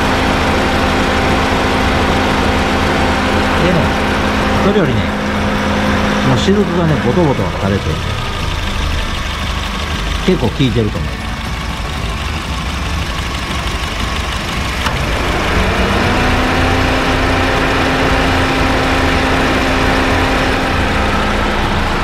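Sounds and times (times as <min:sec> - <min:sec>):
car engine idling: 0:00.0 - 0:22.0
steady hum: 0:00.0 - 0:22.0.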